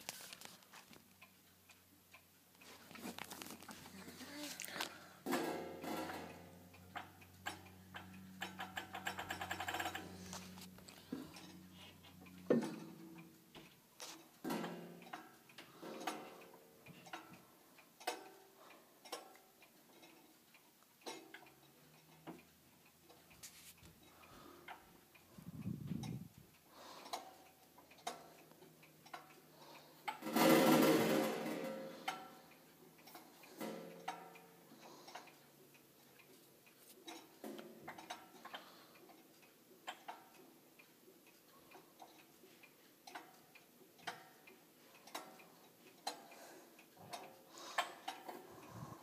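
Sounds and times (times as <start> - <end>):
clock ticking: 0.7 - 49.0.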